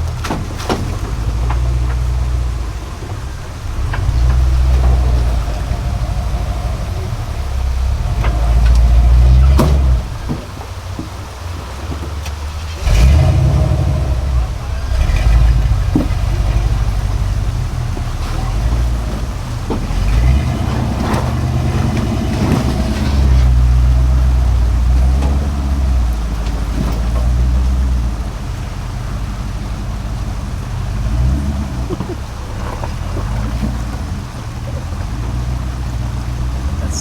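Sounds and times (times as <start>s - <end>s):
off-road engine rumbling: 0.0s - 37.0s.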